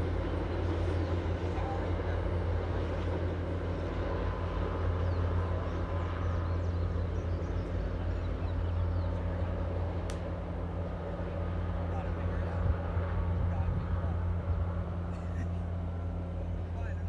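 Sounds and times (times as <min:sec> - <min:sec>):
distant train rumbling over viaduct: 0:00.0 - 0:17.0.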